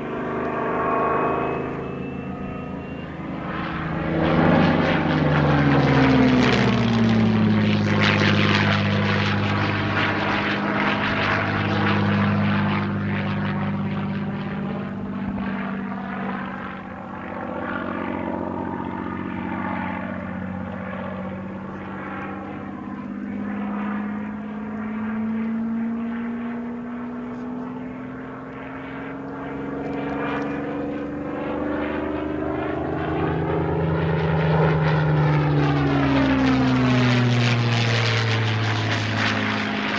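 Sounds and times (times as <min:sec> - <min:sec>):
propeller plane engine: 0:00.0 - 0:39.9.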